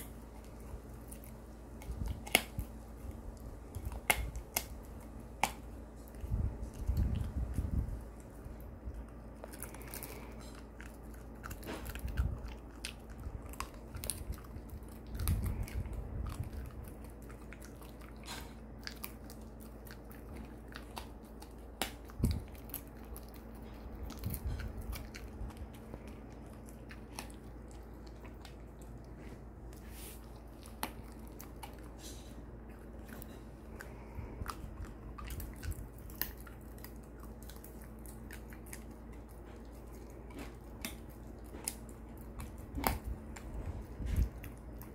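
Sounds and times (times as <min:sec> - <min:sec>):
dog chewing a treat: 0:00.0 - 0:44.9.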